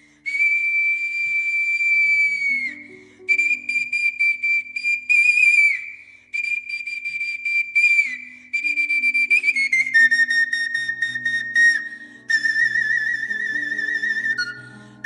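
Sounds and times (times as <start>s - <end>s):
pan flute melody: 0.2s - 15.0s.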